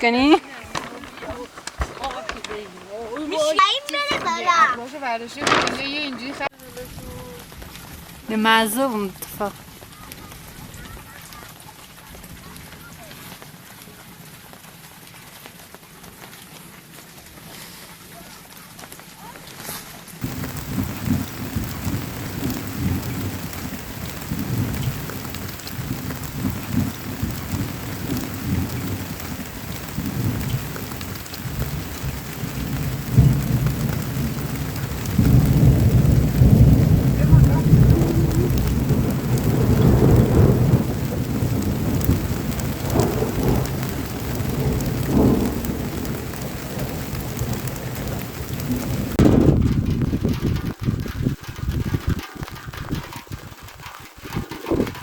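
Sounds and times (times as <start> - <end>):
heavy rain drumming on tent: 0.0 - 55.0.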